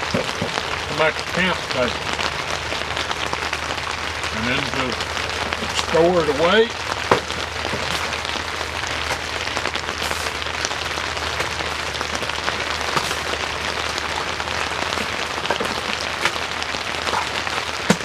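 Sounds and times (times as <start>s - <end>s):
rain falling on a tent: 0.0s - 18.0s.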